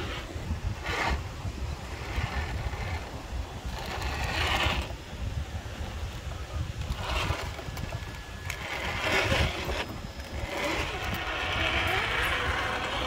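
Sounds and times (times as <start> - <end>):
electric motor and drivetrain whirring: 0.0 - 13.0.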